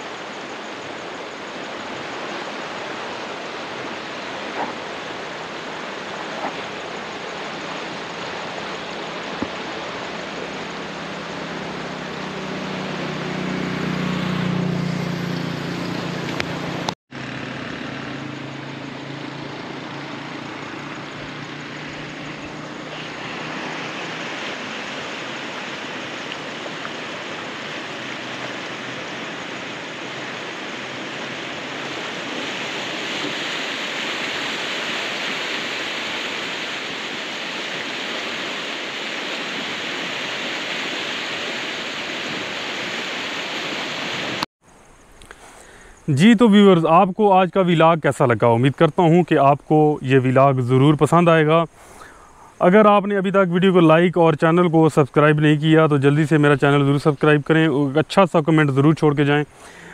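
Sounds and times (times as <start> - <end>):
stream rushing: 0.0 - 59.9.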